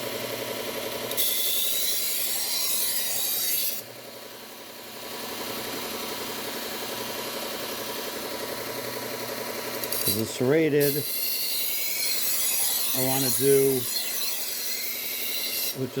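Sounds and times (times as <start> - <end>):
belt sharpener humming: 0.0 - 16.0
knife grinding on belt sander: 0.0 - 16.0.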